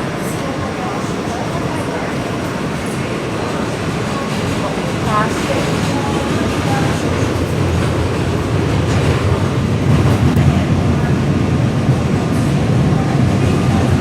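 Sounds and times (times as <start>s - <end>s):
subway wheels rumbling on rails: 0.0s - 14.0s.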